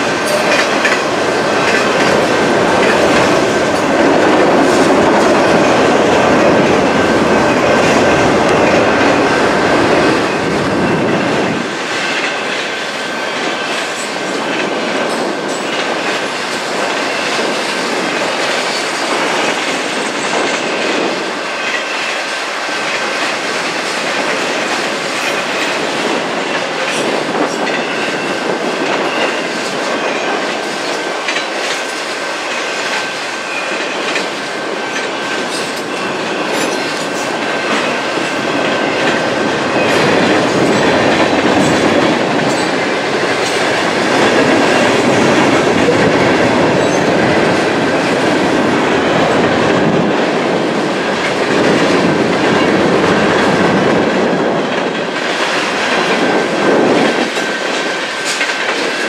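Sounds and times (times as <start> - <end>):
train rumble: 0.0 - 59.0
train wheels clicking over rail joints: 0.0 - 59.0.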